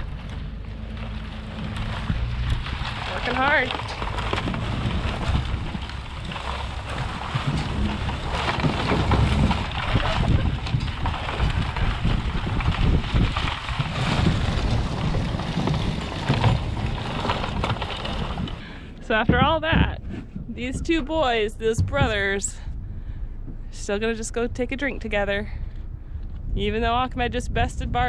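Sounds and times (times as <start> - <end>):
drag scraping through dirt: 0.0 - 22.5
vehicle low rumble: 0.0 - 28.0
wind buffeting microphone: 0.0 - 28.0.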